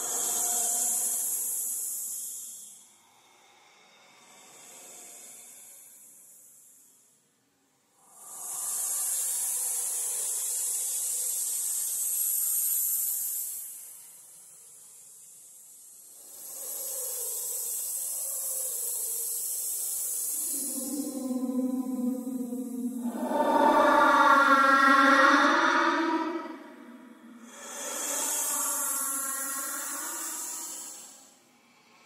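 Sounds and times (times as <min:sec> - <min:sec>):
long breathy hiss: 0:00.0 - 0:07.3, 0:07.9 - 0:32.0.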